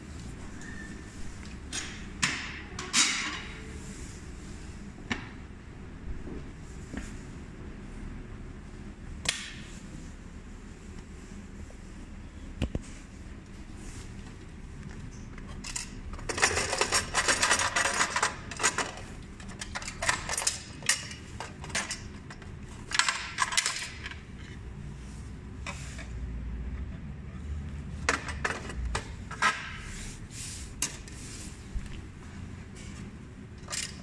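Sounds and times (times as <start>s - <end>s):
room tone hum and hiss: 0.0s - 34.0s.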